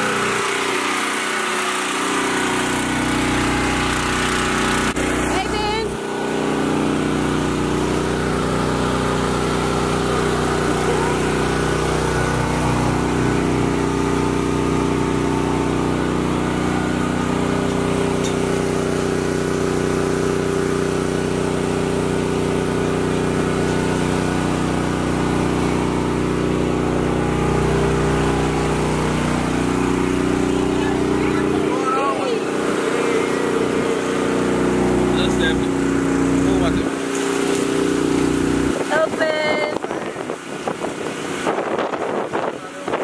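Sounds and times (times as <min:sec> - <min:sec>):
generator engine running: 0:00.0 - 0:43.0.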